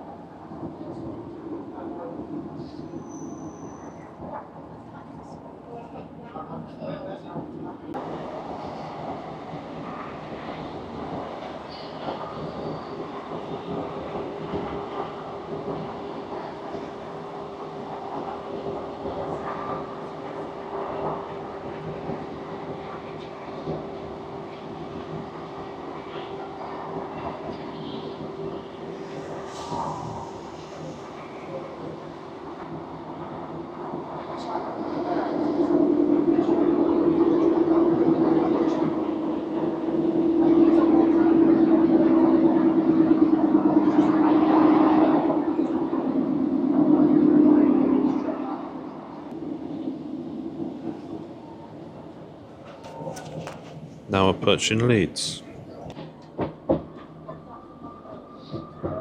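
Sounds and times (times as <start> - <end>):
wheels rumbling on rails: 0.0 - 54.1
train engine hum: 0.0 - 56.0.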